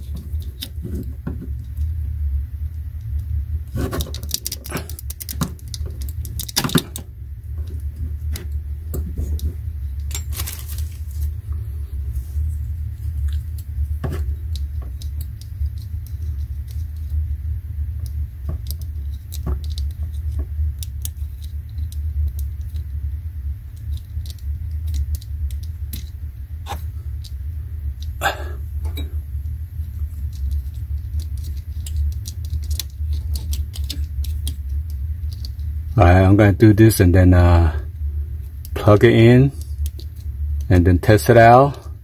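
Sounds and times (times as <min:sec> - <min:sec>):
fingers twisting copper wire: 0:00.0 - 0:02.0, 0:02.8 - 0:11.5, 0:12.6 - 0:22.9, 0:23.6 - 0:36.0, 0:38.4 - 0:40.7
steady low rumble: 0:00.0 - 0:42.0.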